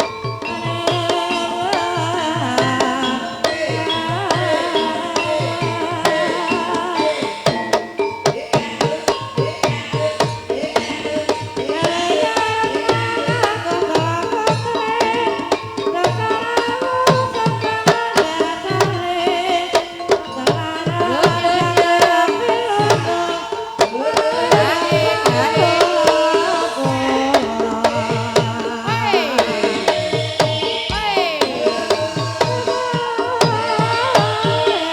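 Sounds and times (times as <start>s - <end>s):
fast pitched ensemble melody: 0.0s - 34.9s
hand drum strokes: 0.0s - 34.9s.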